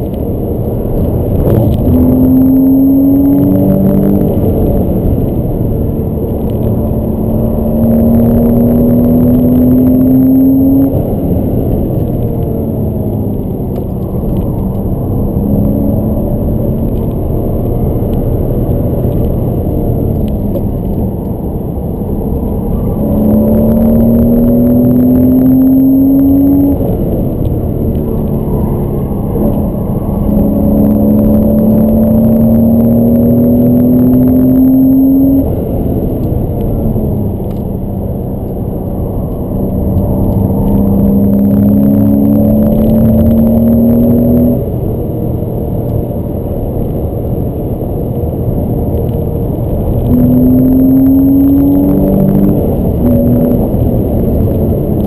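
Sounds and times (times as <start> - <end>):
car engine accelerating: 0.0 - 55.0
road noise rumble: 0.0 - 55.0.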